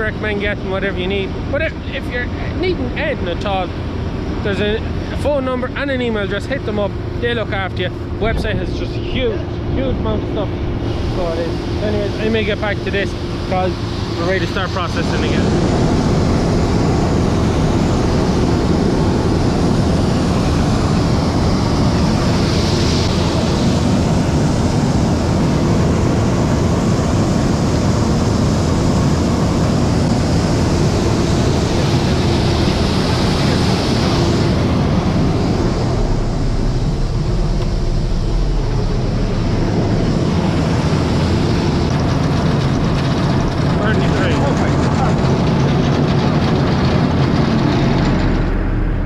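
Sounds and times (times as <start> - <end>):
tractor-driven roller mill rumbling: 0.0 - 49.0.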